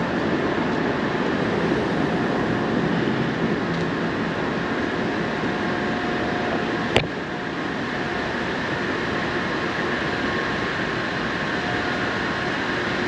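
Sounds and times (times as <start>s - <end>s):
city traffic: 0.0s - 13.0s
faint steady whine: 0.0s - 13.0s.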